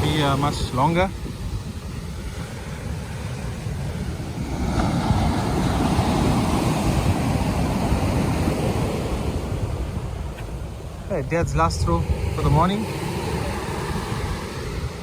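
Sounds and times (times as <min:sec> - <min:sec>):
surf breaking on a beach: 0:00.0 - 0:15.0
wind rumble on microphone: 0:00.0 - 0:15.0.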